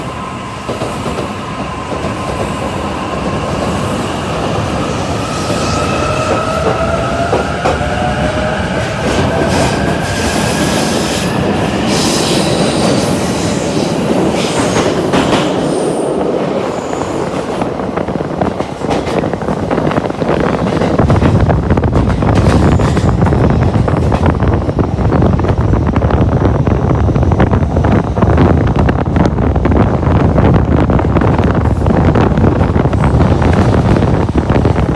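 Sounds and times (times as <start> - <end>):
high-speed train running: 0.0 - 34.9
heavy rush with deep rumble: 1.3 - 34.9.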